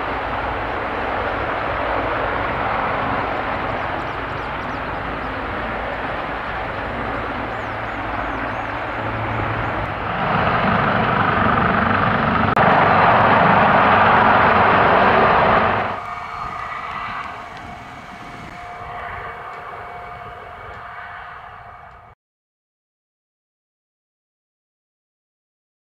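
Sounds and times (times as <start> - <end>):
helicopter rotor rushing noise: 0.0 - 22.2
turbine whine: 0.0 - 22.2.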